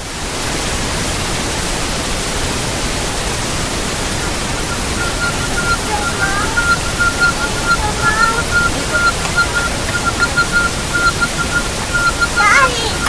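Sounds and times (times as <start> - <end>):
television static hiss: 0.0 - 13.0.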